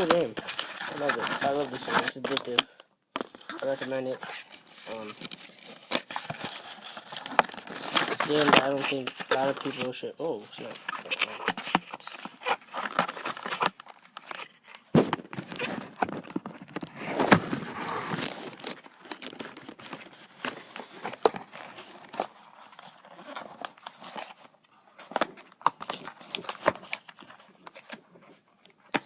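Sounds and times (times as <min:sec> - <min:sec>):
crinkling rustle: 0:00.0 - 0:29.0.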